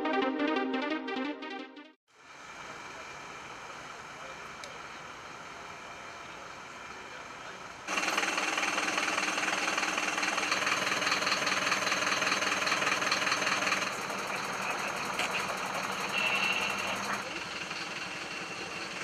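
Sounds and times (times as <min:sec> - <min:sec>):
small engine running with fast pulsing: 0:02.6 - 0:19.0.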